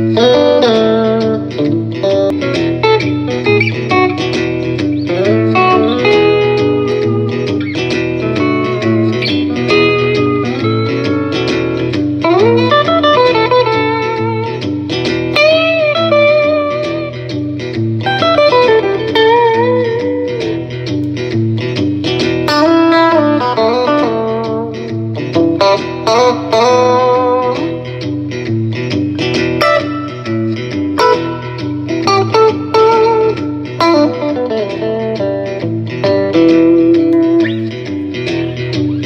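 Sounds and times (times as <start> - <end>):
backing track with beat: 0.0 - 39.0
electric guitar lead: 0.0 - 39.0.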